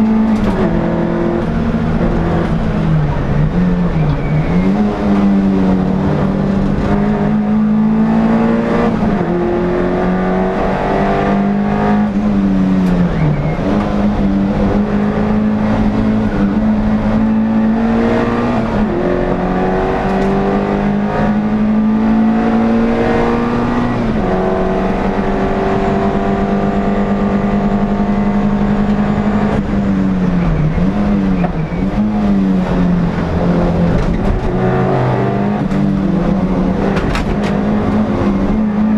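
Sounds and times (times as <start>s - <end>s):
racing engine at high revs: 0.0s - 38.9s.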